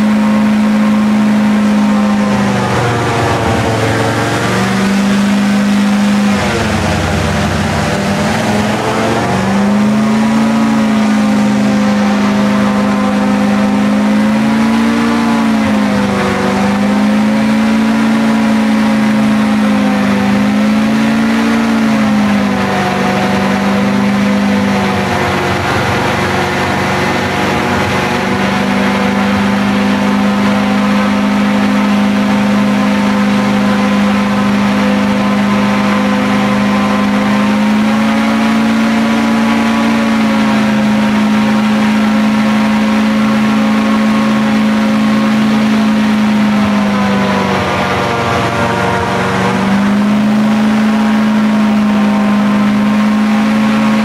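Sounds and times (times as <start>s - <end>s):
airboat engine drone: 0.0s - 54.0s.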